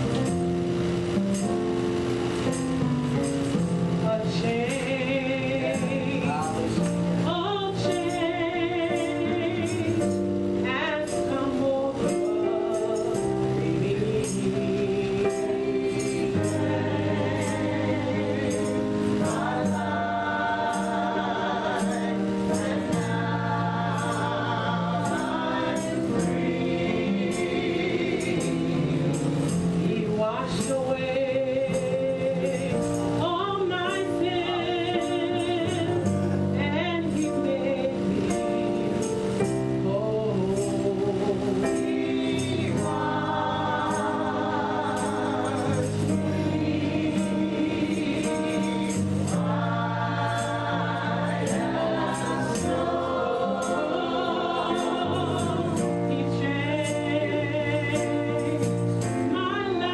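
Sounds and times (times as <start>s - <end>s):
instrumental accompaniment with beat: 0.0s - 59.9s
gospel choir singing: 3.9s - 59.9s.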